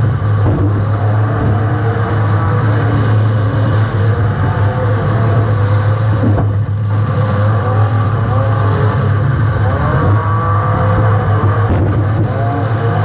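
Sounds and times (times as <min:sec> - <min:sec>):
race car engine running hard: 0:00.0 - 0:13.0
road noise: 0:00.0 - 0:13.0
wind noise: 0:00.0 - 0:13.0.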